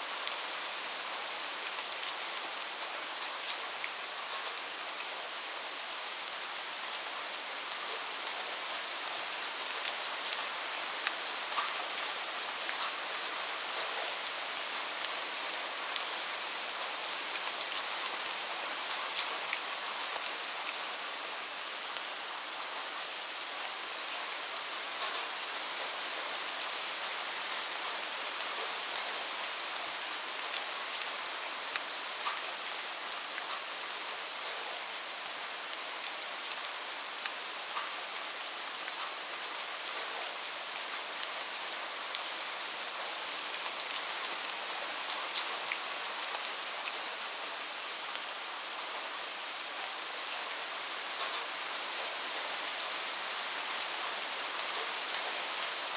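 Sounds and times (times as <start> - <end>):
raindrops ticking on surfaces: 5.8 - 22.9, 24.1 - 55.9.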